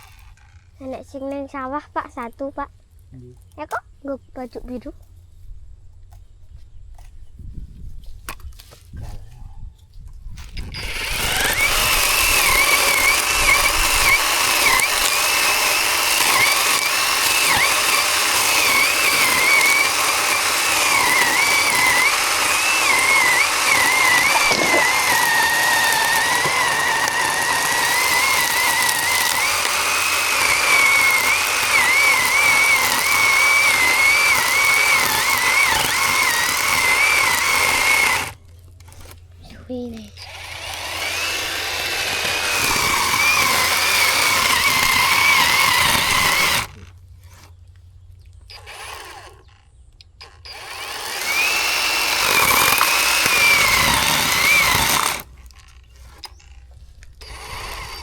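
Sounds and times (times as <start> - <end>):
electric chainsaw motor whine: 0.0 - 0.7, 10.4 - 39.2, 40.0 - 47.5, 48.5 - 58.0.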